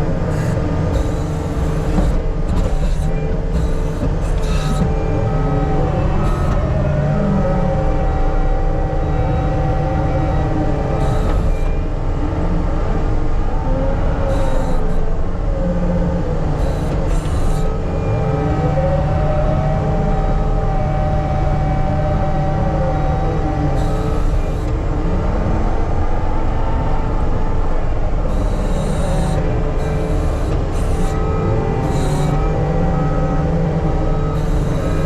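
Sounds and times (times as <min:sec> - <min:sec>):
diesel engine running under load: 0:00.0 - 0:35.0
hydraulic whine: 0:00.0 - 0:35.0.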